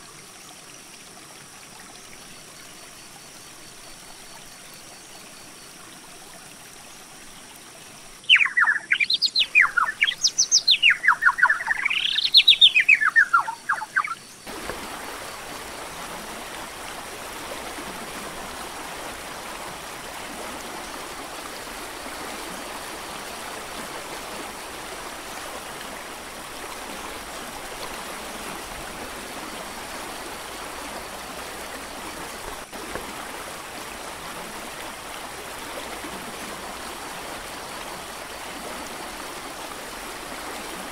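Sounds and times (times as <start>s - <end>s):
creek water flowing: 0.0s - 40.9s.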